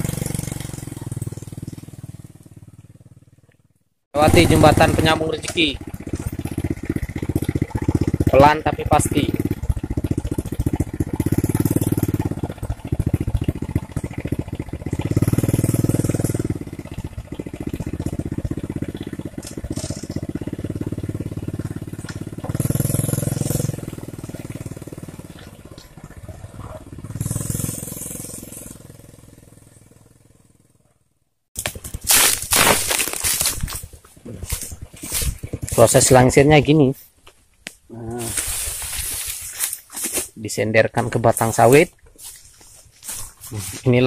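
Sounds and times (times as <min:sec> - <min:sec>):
small motorcycle engine revving: 0:00.0 - 0:36.6, 0:37.9 - 0:40.3.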